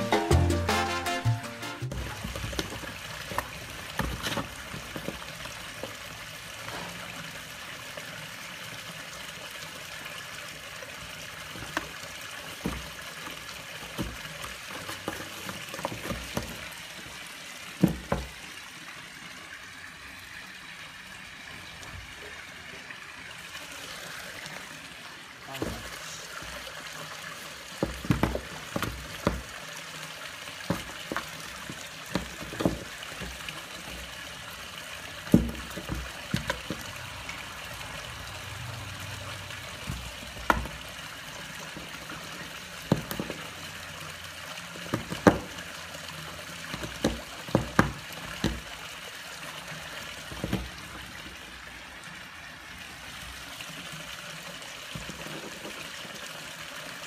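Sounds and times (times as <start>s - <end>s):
water trickling: 1.9s - 57.0s.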